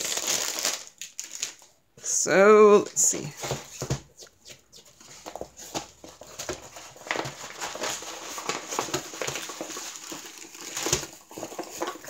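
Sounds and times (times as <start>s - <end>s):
plastic and paper crinkling: 0.0s - 1.8s, 3.2s - 12.0s.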